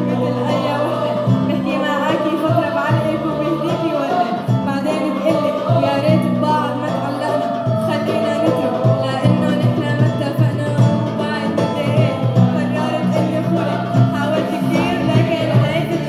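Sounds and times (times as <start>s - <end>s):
choir singing: 0.0s - 16.0s
hand drum beat: 0.0s - 16.0s.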